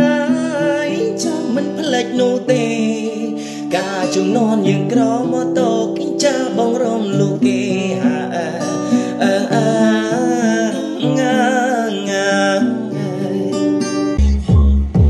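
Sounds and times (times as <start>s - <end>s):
guitar accompaniment: 0.0s - 15.0s
man singing: 0.0s - 15.0s.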